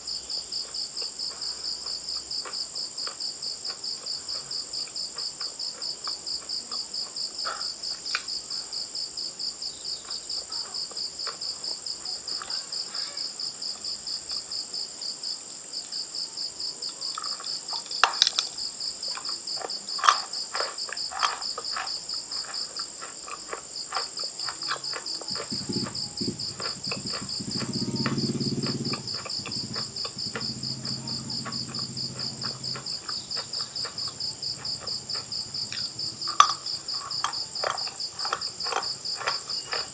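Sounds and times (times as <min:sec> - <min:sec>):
insect trill: 0:00.0 - 0:39.9
crunching chewing clicks: 0:00.3 - 0:14.6, 0:16.8 - 0:39.9.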